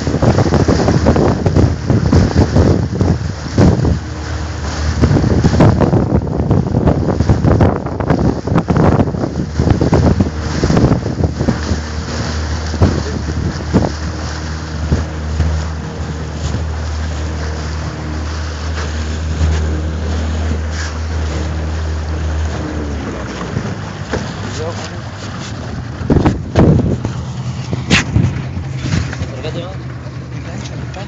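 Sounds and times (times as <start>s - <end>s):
boat motor running: 0.0s - 31.0s
wind buffeting microphone: 0.0s - 31.0s.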